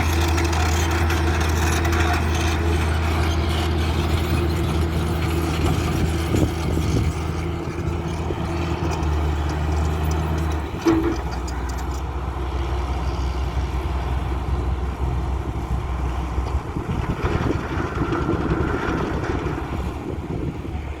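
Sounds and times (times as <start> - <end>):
deep engine hum: 0.0 - 21.0
rough uneven diesel engine: 0.0 - 21.0.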